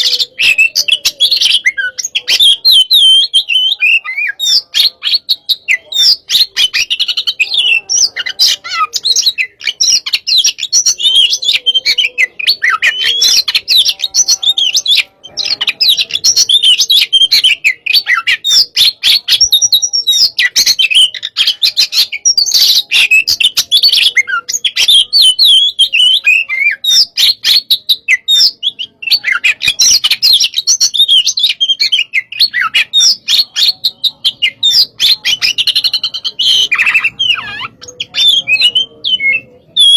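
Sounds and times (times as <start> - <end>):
songbird singing whistles and chirps: 0.0 - 39.9.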